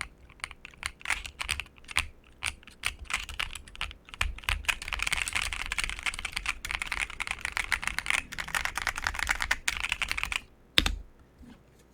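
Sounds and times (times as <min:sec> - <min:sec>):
fast typing on mechanical keyboard: 0:00.0 - 0:11.0.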